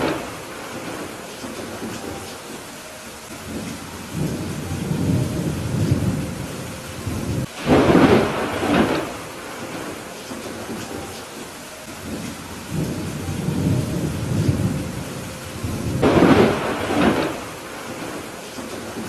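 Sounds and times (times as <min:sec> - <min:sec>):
loud thunderclap: 0:00.0 - 0:02.2, 0:03.4 - 0:11.0, 0:12.0 - 0:19.0
low thunder rumble: 0:00.0 - 0:02.6, 0:03.2 - 0:11.2, 0:11.9 - 0:19.0
steady rain: 0:00.0 - 0:19.0.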